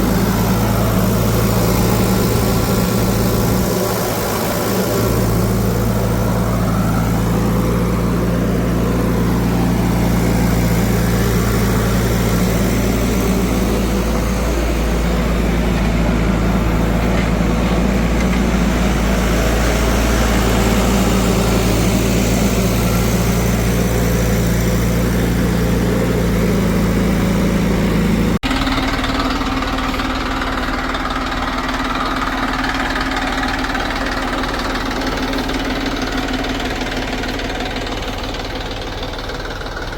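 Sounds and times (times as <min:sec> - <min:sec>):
heavy machinery engine running: 0:00.0 - 0:39.9
higher-pitched engine running: 0:00.0 - 0:39.9.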